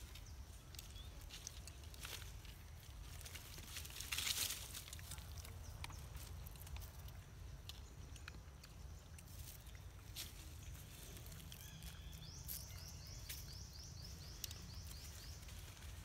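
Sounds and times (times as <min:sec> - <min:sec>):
monkeys rustling in dry leaves: 0:00.0 - 0:07.4, 0:09.2 - 0:13.6, 0:14.2 - 0:16.0.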